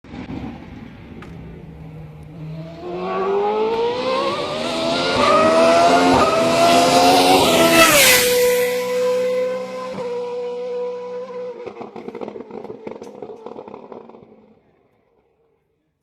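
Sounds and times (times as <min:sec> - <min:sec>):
racing car engine passing: 0:00.1 - 0:14.6.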